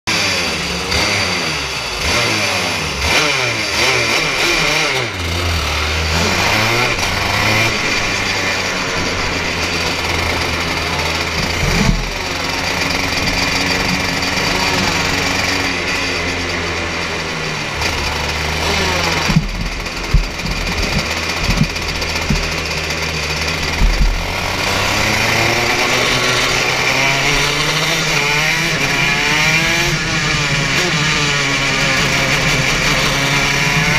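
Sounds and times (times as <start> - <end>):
kart engine revving: 0.1 - 33.9.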